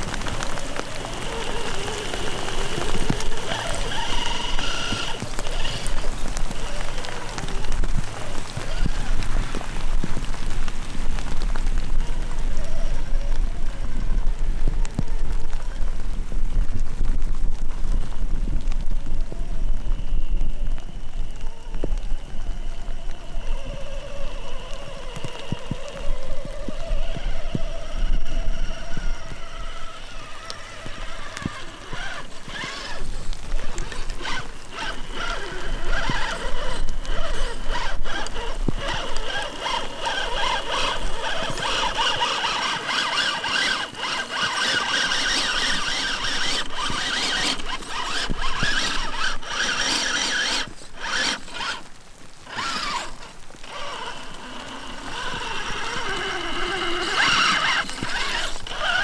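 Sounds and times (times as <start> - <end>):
electric motor whining through gears: 0.0 - 10.5, 21.1 - 59.0
tyres crackling through dry grass: 0.0 - 59.0.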